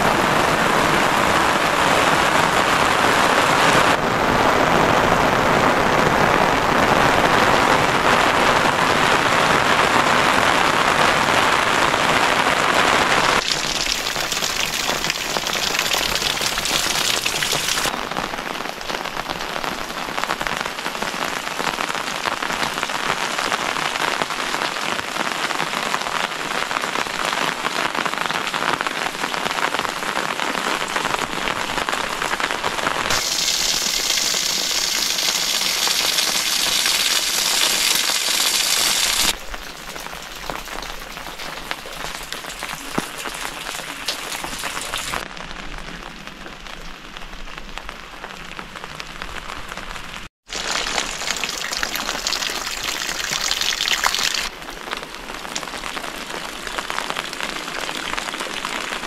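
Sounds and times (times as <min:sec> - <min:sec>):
rain falling on puddles: 0:00.0 - 0:59.0.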